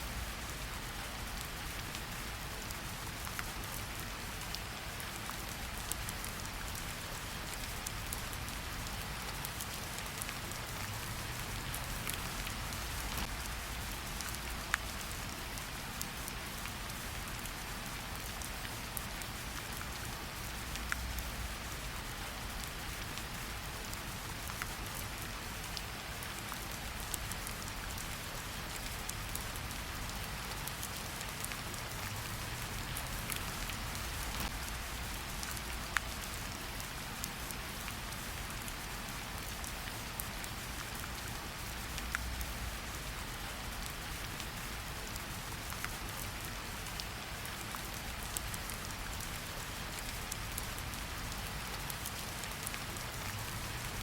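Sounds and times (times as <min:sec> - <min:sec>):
steady rain in forest: 0:00.0 - 0:54.0
raindrops ticking close by: 0:00.1 - 0:54.0.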